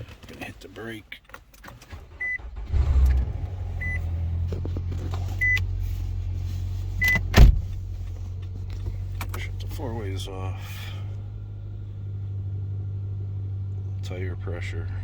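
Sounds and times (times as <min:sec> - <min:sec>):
car engine starting and idling: 0:00.0 - 0:15.0.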